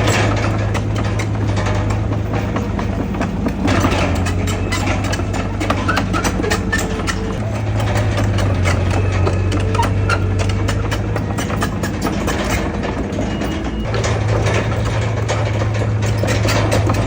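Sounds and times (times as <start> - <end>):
bulldozer diesel engine running: 0.0 - 17.0
steel tracks clanking: 0.0 - 17.0.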